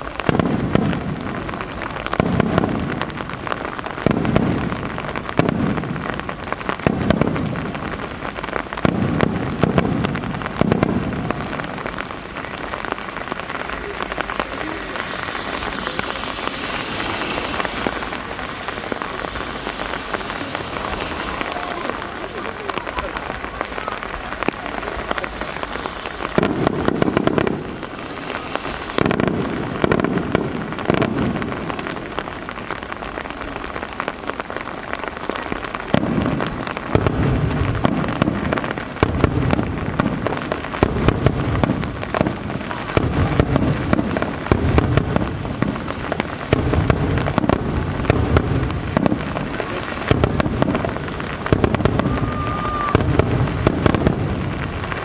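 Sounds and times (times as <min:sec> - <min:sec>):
fireworks booming: 0:00.0 - 0:55.0
rain pattering: 0:00.0 - 0:55.0.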